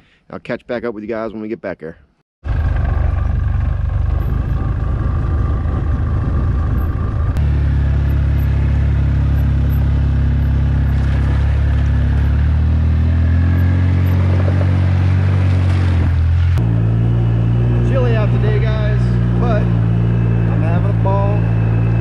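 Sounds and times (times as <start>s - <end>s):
atv engine running: 2.5s - 22.0s.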